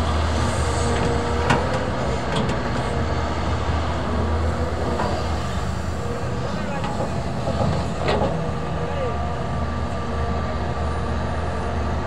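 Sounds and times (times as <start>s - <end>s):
excavator engine and hydraulics: 0.0s - 12.0s.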